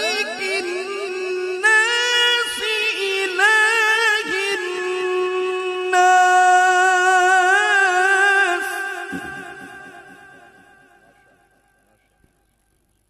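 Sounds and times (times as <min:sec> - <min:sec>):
man reciting melodically into microphone: 0:00.0 - 0:12.0.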